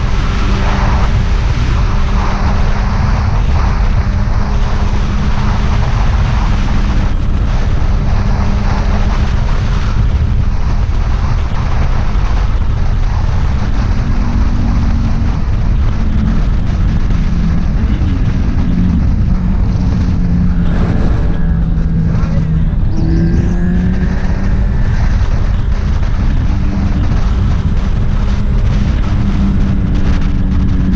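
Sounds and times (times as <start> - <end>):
motorcycle engine cruising: 0.0 - 30.9
wind rush on microphone: 0.0 - 30.9.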